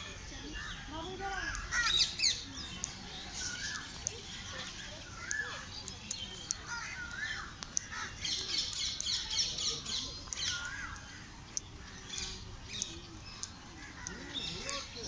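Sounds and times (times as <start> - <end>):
birds calling and chirping: 0.0 - 15.0
faint distant voices: 0.0 - 15.0.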